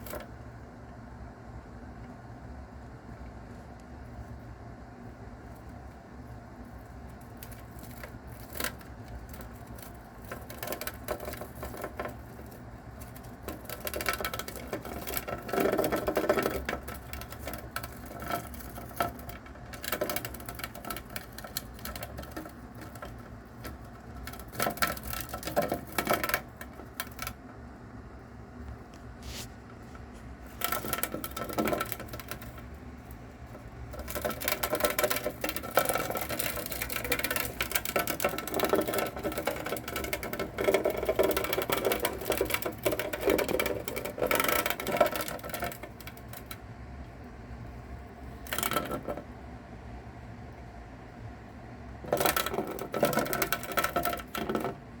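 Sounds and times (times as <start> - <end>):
crackling and rattling clicks: 0.0 - 0.4, 5.4 - 27.7, 28.4 - 49.5, 51.9 - 55.0
steady low hum: 0.0 - 55.0.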